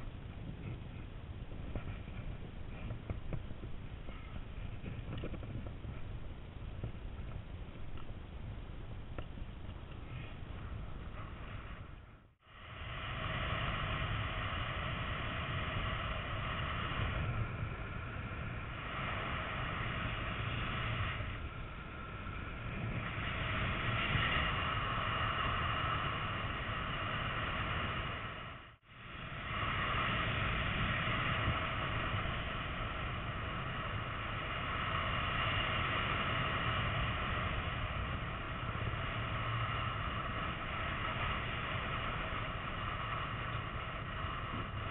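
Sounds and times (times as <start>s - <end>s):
thin wind whistling: 0.0s - 44.9s
wind rumbling over microphone: 0.0s - 44.9s.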